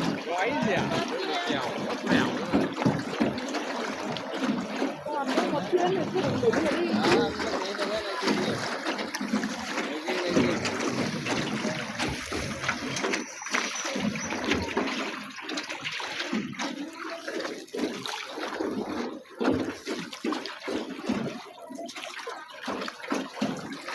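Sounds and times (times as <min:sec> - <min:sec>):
water splashing around boat: 0:00.0 - 0:23.9.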